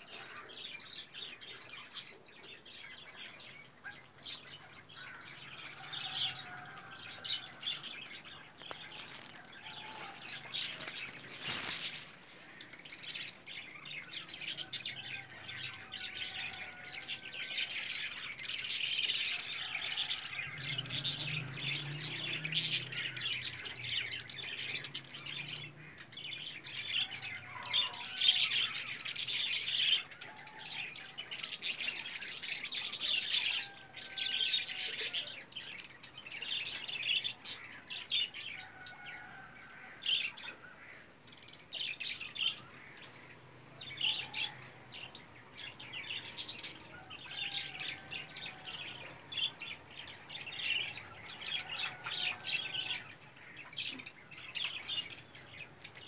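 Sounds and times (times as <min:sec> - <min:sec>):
small birds chirping and squawking: 0:00.0 - 0:56.0.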